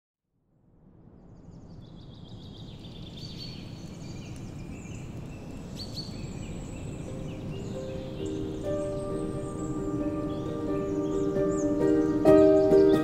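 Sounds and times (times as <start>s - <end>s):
birds chirping: 1.4s - 13.0s.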